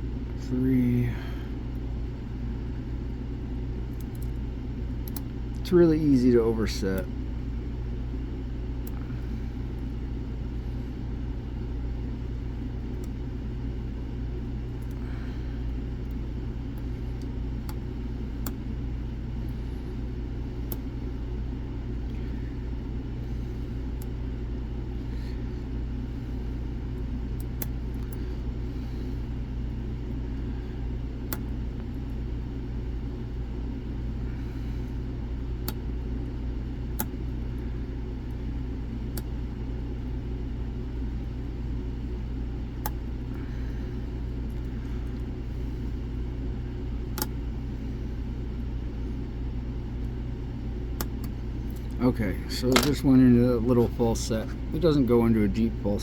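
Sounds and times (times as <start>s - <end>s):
low background rumble: 0.0s - 56.0s.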